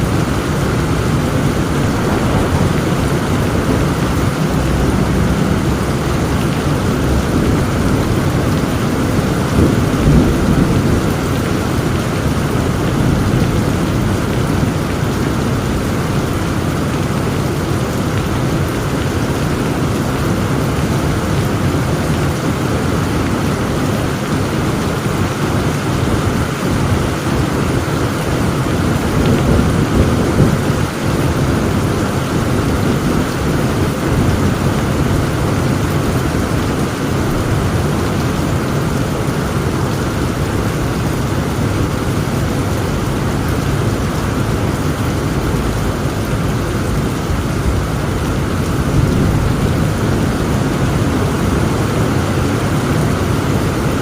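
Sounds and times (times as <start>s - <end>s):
heavy rain falling: 0.0s - 54.0s
low thunder rumbling: 0.0s - 54.0s.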